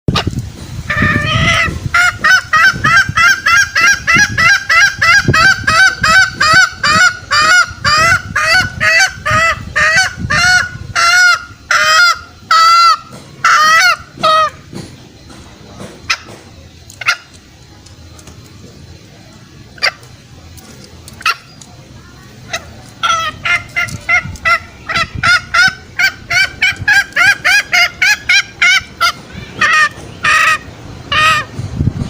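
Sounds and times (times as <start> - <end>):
junglefowl calling: 0.1 - 15.3, 16.0 - 17.5, 19.2 - 31.6.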